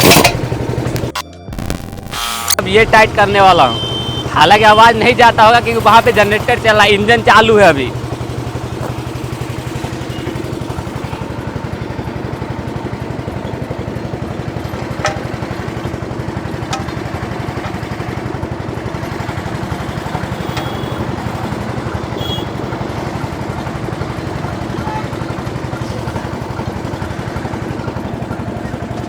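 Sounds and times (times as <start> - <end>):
small generator engine running: 0.0 - 29.0.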